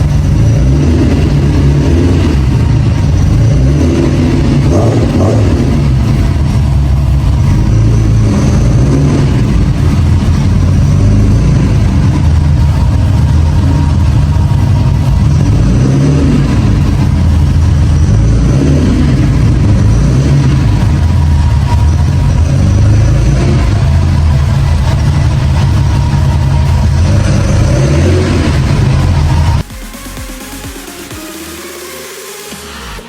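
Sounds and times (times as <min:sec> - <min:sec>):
car engine running: 0:00.0 - 0:31.7.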